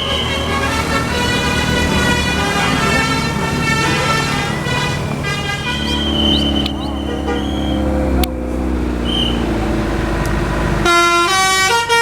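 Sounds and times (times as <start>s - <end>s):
multi-tone musical air horn: 0.0s - 8.6s, 10.8s - 12.0s
bus engine running: 0.0s - 12.0s.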